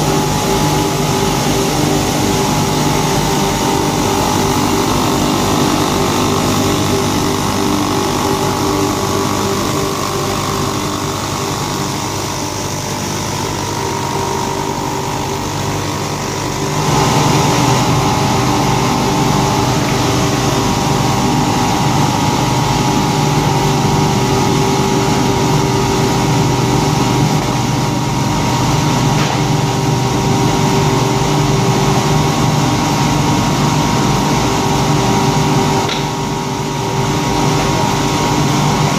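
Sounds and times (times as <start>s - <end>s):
machine motors humming: 0.0s - 38.9s.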